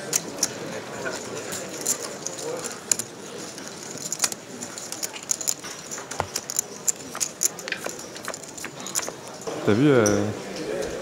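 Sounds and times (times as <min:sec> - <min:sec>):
poker chips clicking: 0:00.0 - 0:09.4
murmur of voices: 0:00.0 - 0:11.0.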